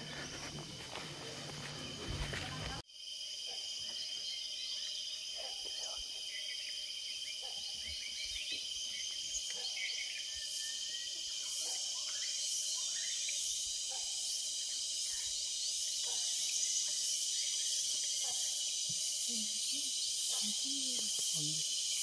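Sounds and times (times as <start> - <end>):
cicadas and crickets droning: 0.0 - 22.0.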